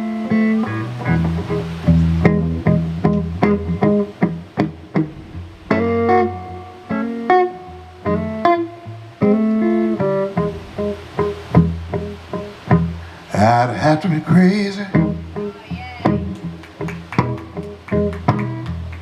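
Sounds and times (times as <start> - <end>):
picked guitar ballad: 0.0 - 19.0.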